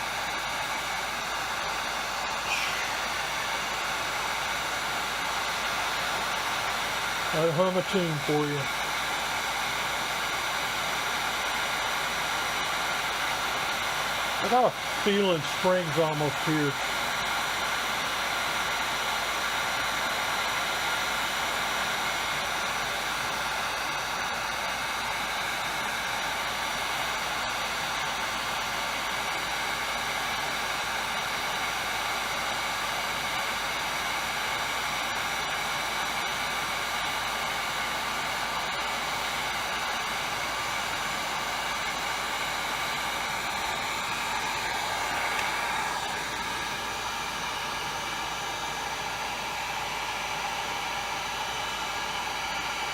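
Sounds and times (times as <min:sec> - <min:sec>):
heat gun blowing: 0:00.0 - 0:52.9.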